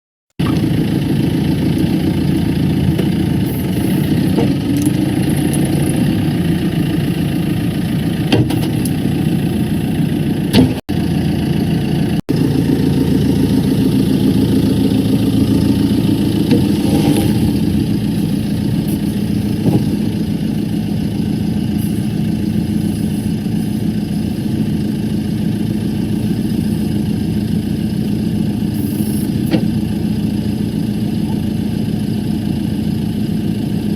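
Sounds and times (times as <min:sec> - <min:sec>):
diesel engine idling: 0:00.4 - 0:33.9.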